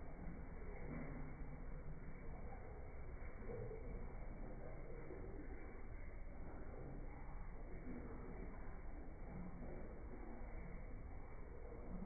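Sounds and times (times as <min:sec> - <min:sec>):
muffled low background noise: 0:00.0 - 0:12.0.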